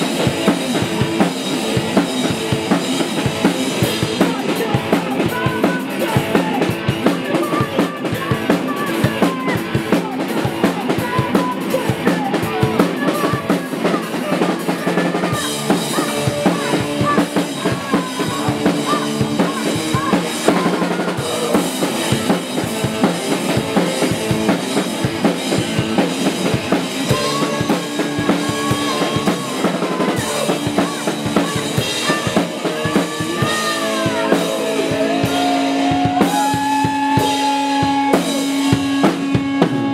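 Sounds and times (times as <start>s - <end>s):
drum kit fast beat: 0.0s - 39.9s
electric guitar: 0.0s - 39.9s.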